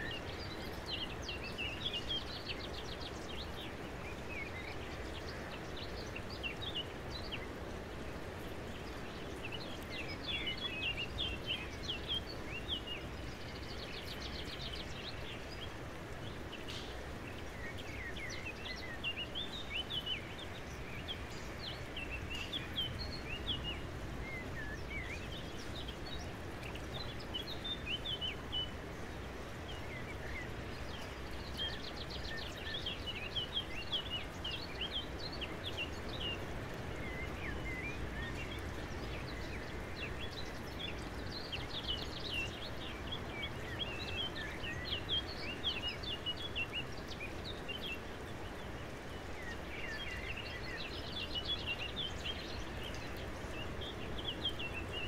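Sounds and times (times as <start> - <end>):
outdoor background noise: 0.0 - 55.0
small birds chirping: 0.0 - 55.0.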